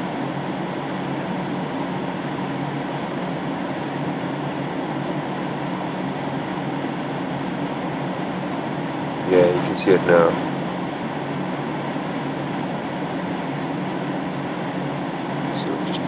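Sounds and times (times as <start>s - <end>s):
heater blower fan rushing: 0.0s - 16.0s.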